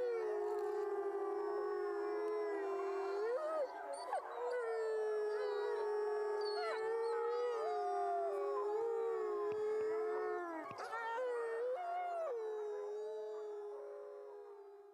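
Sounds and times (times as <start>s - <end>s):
wolves howling in chorus: 0.0s - 14.7s.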